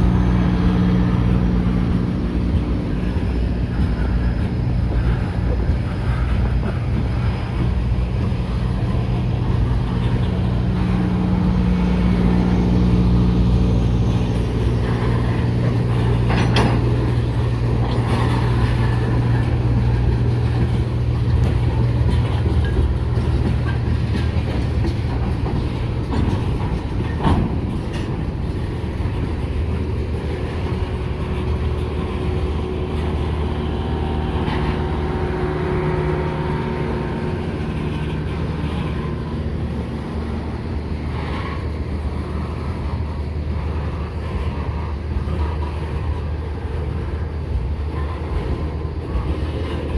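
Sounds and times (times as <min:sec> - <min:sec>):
locomotive engine drone: 0:00.0 - 0:49.9.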